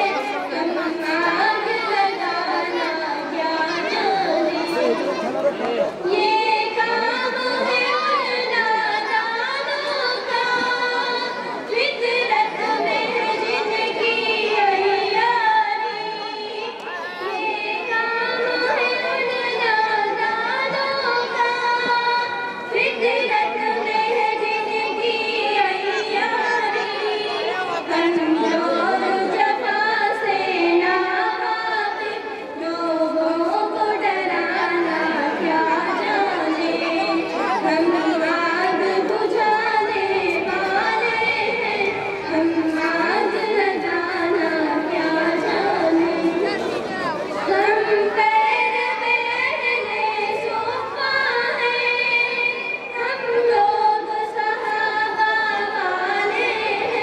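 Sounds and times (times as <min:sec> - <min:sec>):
girls singing together: 0:00.0 - 0:57.0.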